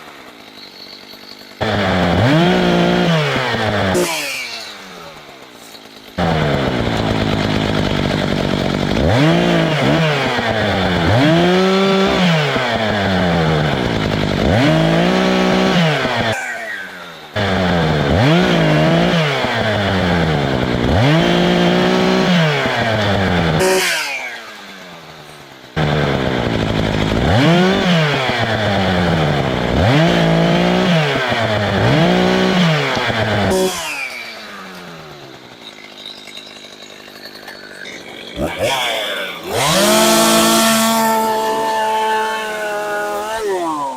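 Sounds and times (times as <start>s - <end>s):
chainsaw cutting at high revs: 0.0s - 43.9s.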